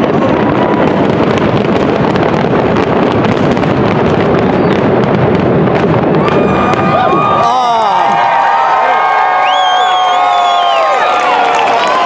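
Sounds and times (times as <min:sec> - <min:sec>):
fireworks bursting: 0:00.0 - 0:08.7, 0:09.4 - 0:12.0
fireworks crackling: 0:00.0 - 0:12.0.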